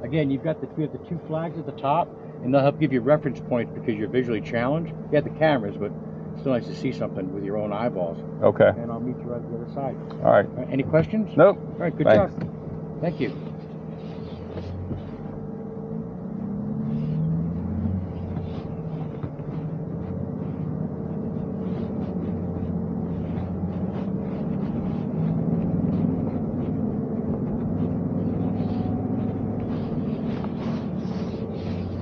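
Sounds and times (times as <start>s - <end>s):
steady whine: 0.0s - 32.0s
vehicle engine pulling away: 0.0s - 32.0s.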